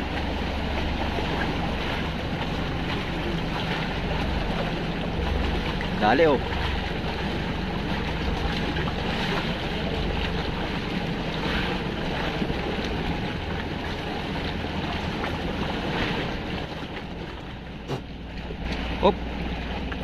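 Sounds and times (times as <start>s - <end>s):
sea washing around a boat: 0.0s - 20.0s.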